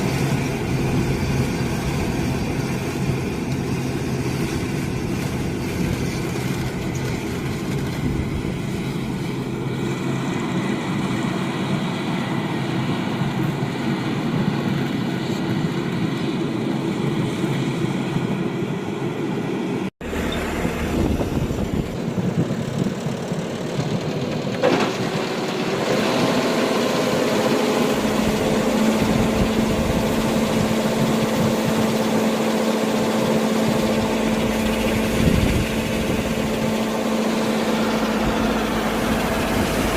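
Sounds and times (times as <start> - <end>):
harvester engine and machinery: 0.0 - 39.9.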